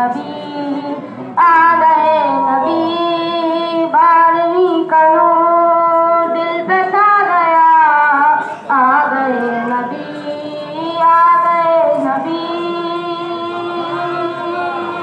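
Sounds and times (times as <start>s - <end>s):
high voice singing devotional song: 0.0s - 15.0s.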